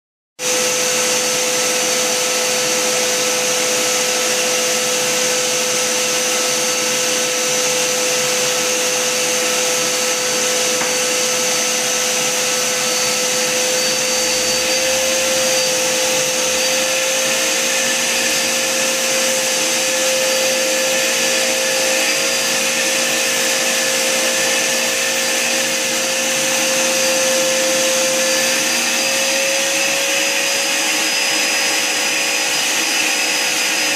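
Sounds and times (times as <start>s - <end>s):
vacuum cleaner running: 0.4s - 33.9s.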